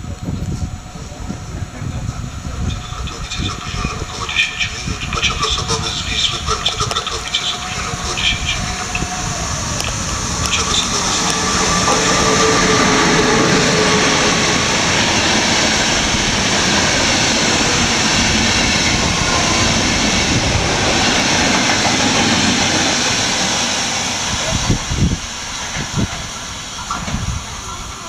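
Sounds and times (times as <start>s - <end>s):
train wheels and air rushing: 0.0s - 28.0s.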